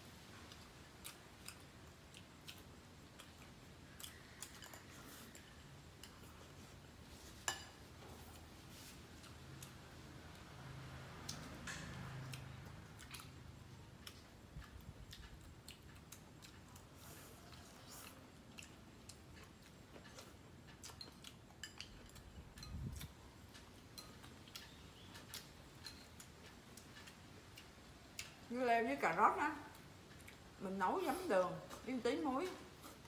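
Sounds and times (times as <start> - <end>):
chewing: 0.2 - 33.0.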